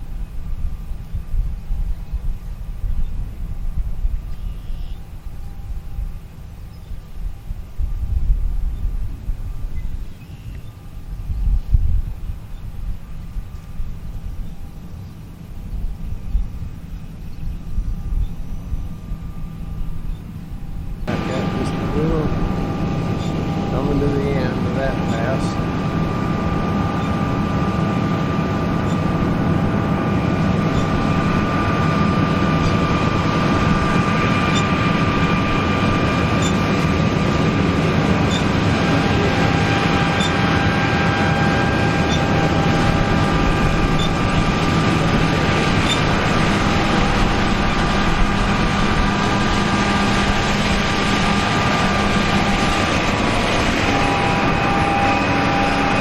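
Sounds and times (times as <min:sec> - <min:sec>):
machinery low rumble: 0:00.0 - 0:56.0
high whining tones: 0:09.4 - 0:56.0.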